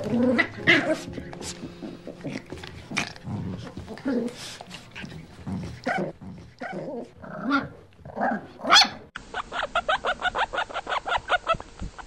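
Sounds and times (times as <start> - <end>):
guinea pigs squeaking: 0.0 - 12.0.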